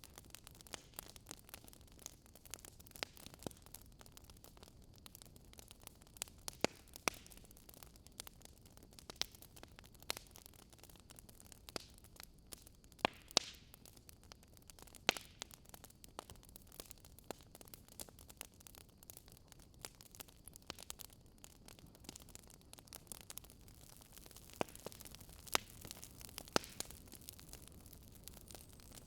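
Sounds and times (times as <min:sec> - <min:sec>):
faint steady hiss: 0:00.0 - 0:29.0
wood fire crackling: 0:00.0 - 0:29.0.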